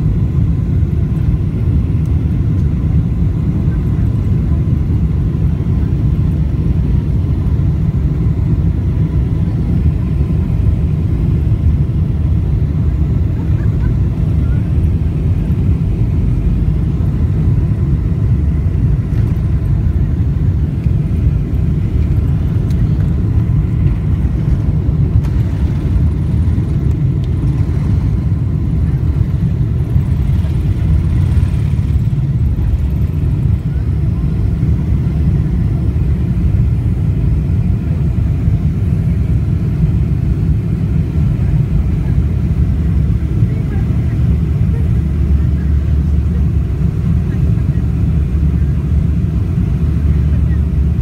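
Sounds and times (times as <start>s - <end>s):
jet engines at takeoff thrust: 0.0s - 51.0s
loud cabin rumble: 0.0s - 51.0s.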